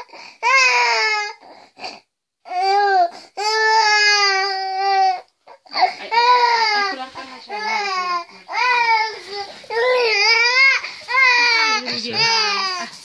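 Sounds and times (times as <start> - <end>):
baby crying: 0.0 - 13.0.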